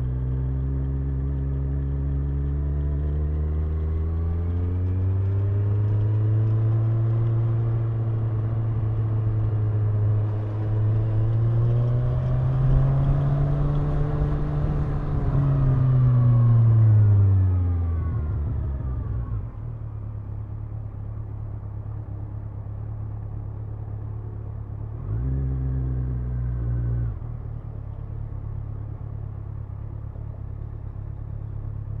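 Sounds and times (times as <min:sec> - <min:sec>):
motorcycle engine revving and idling: 0:00.0 - 0:32.0.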